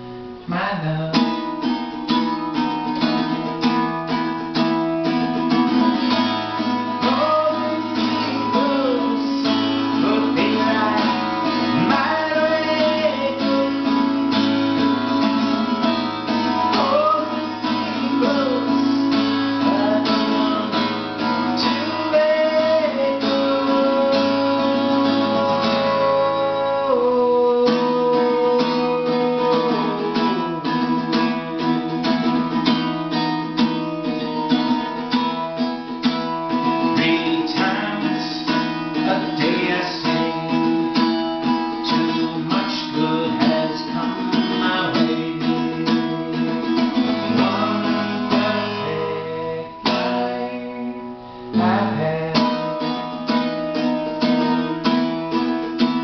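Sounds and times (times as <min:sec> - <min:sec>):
acoustic guitar: 0:00.0 - 0:56.0.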